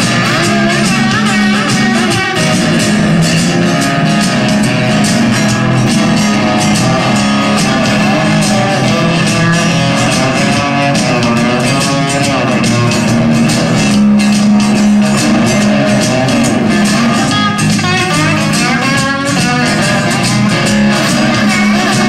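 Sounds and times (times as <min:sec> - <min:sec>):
amplified electric guitar: 0:00.0 - 0:22.0.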